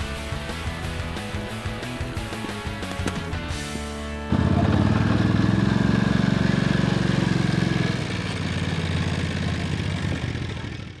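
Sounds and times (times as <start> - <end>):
utility vehicle engine running: 0.3 - 11.0.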